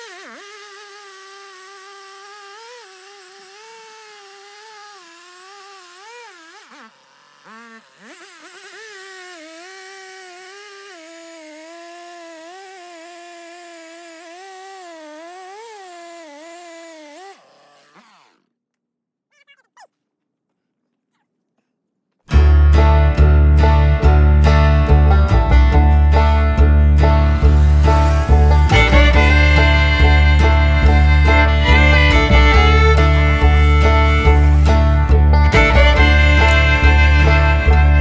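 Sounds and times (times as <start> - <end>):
chainsaw cutting through log: 0.0 - 18.6, 22.3 - 38.0.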